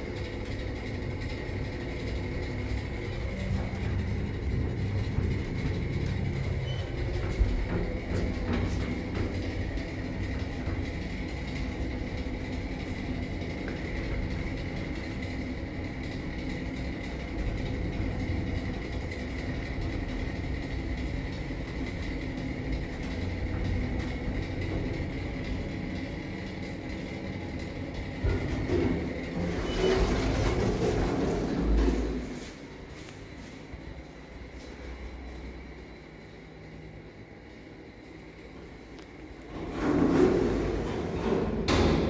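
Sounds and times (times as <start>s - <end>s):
elevator doors clunking open: 0.0s - 32.6s, 39.2s - 42.0s
elevator rumble and whine: 0.0s - 42.0s.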